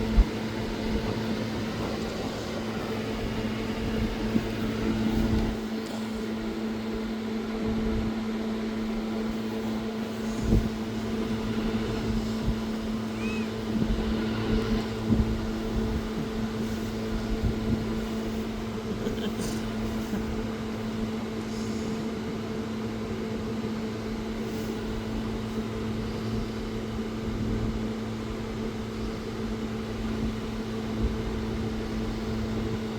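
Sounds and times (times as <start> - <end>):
machine hum: 0.0 - 32.9.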